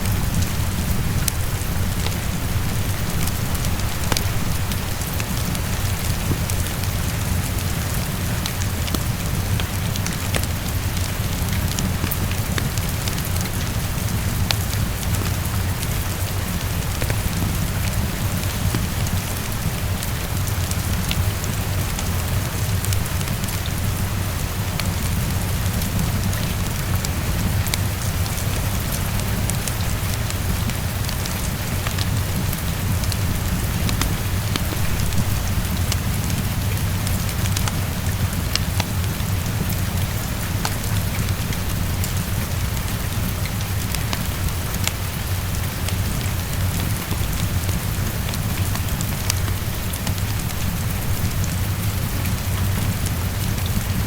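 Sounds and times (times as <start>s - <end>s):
heavy rain against a window: 0.0s - 54.0s.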